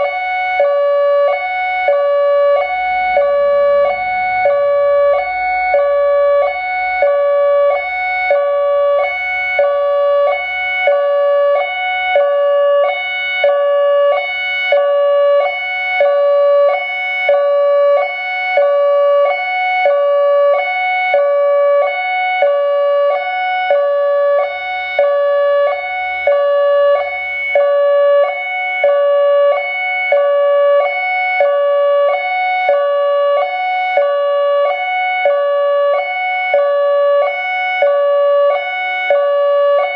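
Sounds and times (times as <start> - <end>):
hi-lo warning siren: 0.0 - 39.9.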